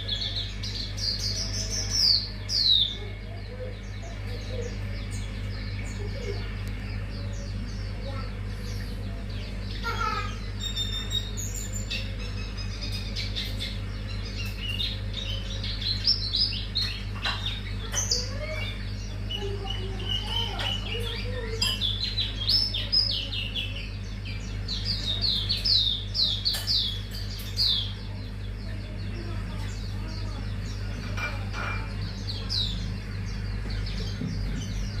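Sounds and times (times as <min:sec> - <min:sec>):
bird twittering song: 0:00.0 - 0:35.0
steady low hum: 0:00.0 - 0:35.0.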